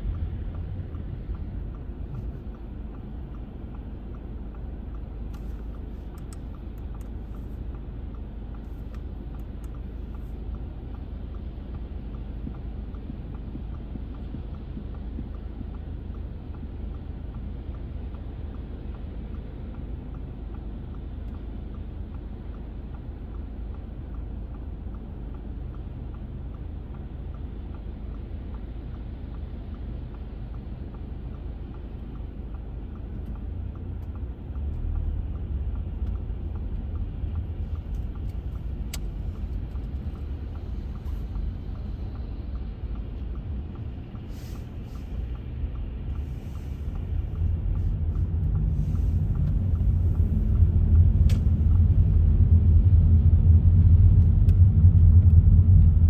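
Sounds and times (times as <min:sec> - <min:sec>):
car driving on slushy road: 0:00.0 - 0:56.0.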